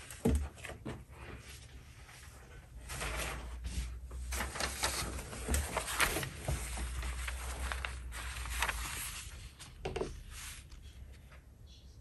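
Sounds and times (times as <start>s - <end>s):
rustling art materials: 0.0s - 11.7s.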